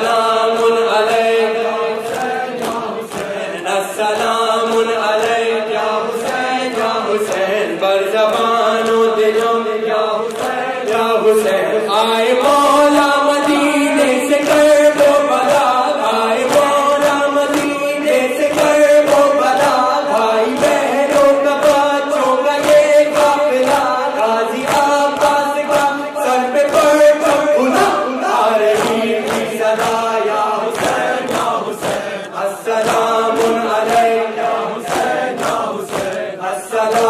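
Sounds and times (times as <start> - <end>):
crowd of men chanting: 0.0 - 37.0
men singing a lament: 0.0 - 37.0
rhythmic chest slaps: 0.0 - 37.0.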